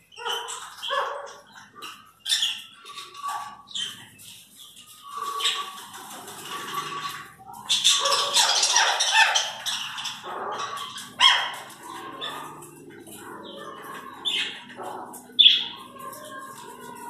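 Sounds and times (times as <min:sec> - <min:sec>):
parrots squawking: 0:00.0 - 0:17.0.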